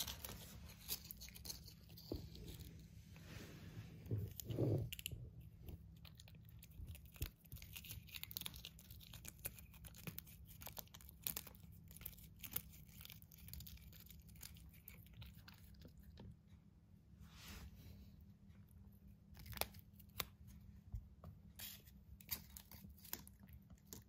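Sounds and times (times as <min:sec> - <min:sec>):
cat licking and chewing: 0:00.0 - 0:02.8, 0:04.0 - 0:16.7, 0:19.0 - 0:20.6, 0:21.6 - 0:24.0.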